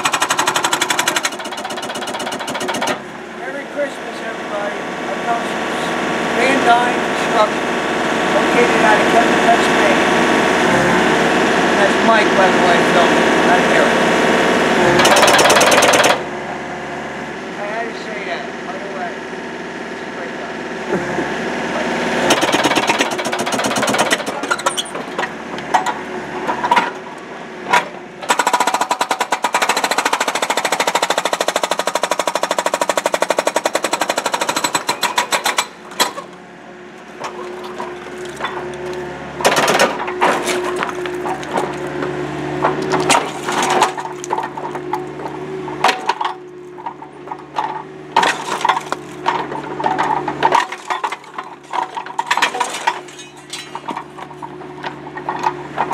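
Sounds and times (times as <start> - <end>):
hydraulic breaker pounding concrete: 0.0 - 16.6, 20.8 - 36.4, 37.1 - 55.9
excavator engine running: 0.0 - 55.9.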